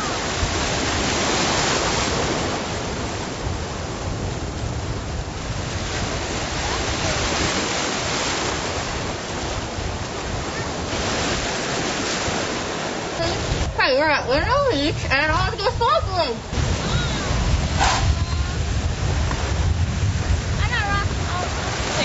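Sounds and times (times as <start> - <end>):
ocean surf breaking: 0.0 - 22.0
wind on microphone: 0.0 - 22.0.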